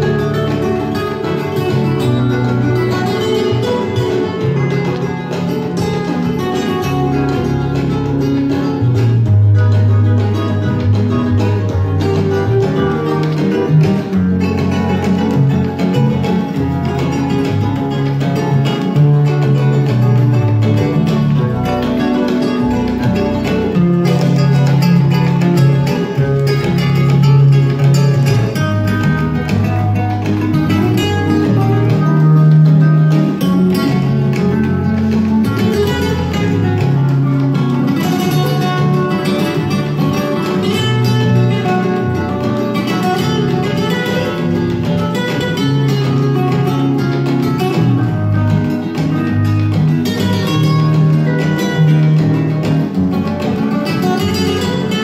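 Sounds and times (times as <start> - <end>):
guitar music with bass: 0.0 - 55.0.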